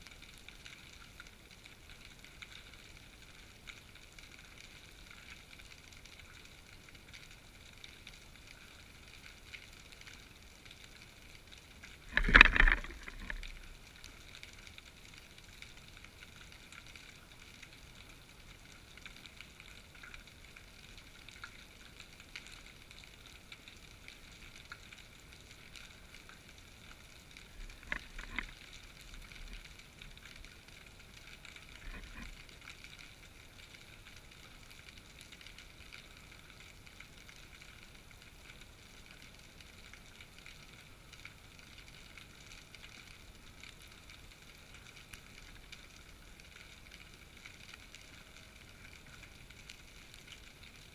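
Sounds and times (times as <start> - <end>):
faint crackling hiss underwater: 0.0 - 50.9.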